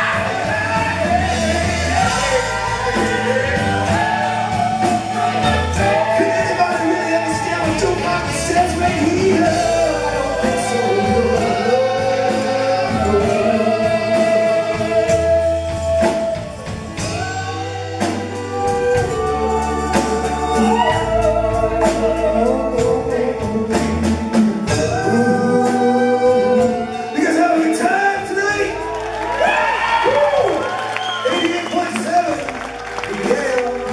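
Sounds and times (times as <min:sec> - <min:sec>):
singers with backing vocals: 0:00.0 - 0:32.4
live rock band playing: 0:00.0 - 0:33.9.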